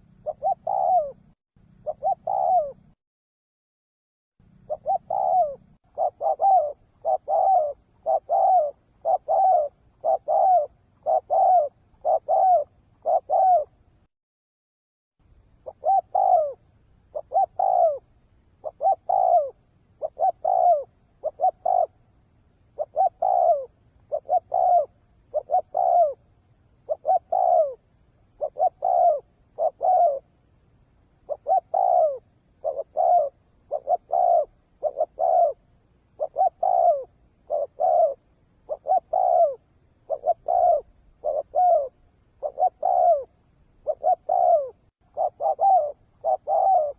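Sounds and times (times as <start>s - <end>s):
dove cooing: 0.0s - 3.0s, 4.5s - 13.8s, 15.6s - 22.1s, 22.7s - 30.4s, 31.2s - 46.9s.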